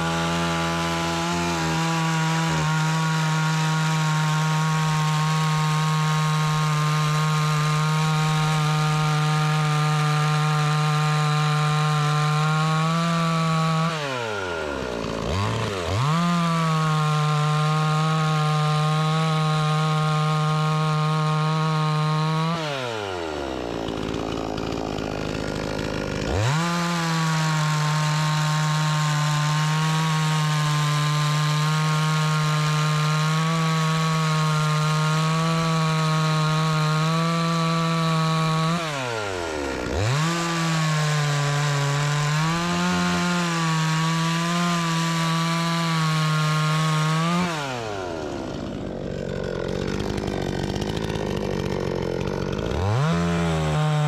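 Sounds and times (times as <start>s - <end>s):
chainsaw cutting a log: 0.0s - 54.0s
chainsaw idling: 0.0s - 54.0s.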